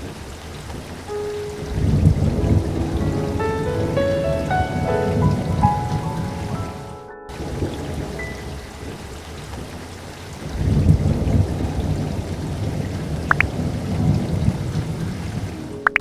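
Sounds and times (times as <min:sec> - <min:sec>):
steady rain falling: 0:00.0 - 0:16.0
thunder rumbling: 0:01.5 - 0:15.6.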